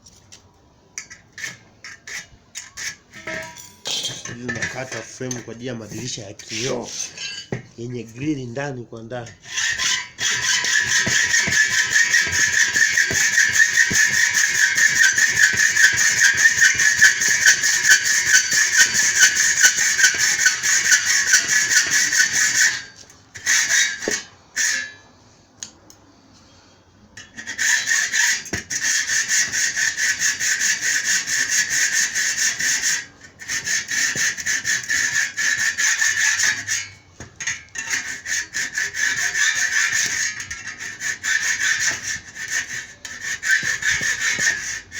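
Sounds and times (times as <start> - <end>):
hacksaw cutting metal: 1.0 - 7.7, 9.2 - 25.0, 27.2 - 44.9.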